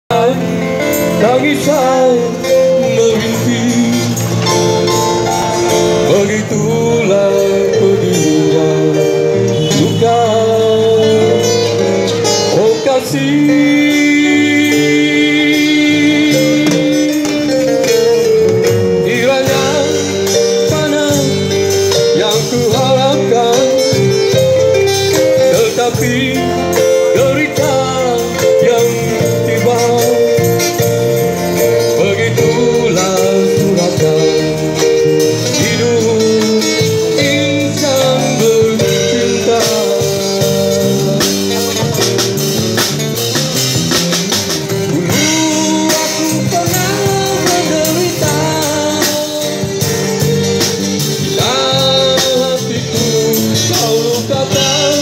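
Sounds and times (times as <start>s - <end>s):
guitar: 0.0s - 55.0s
keyboard: 0.1s - 55.0s
man singing into microphone: 0.1s - 55.0s.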